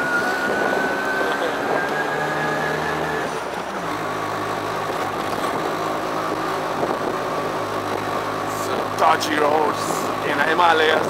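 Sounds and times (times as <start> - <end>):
auto-rickshaw engine running: 0.0 - 11.0.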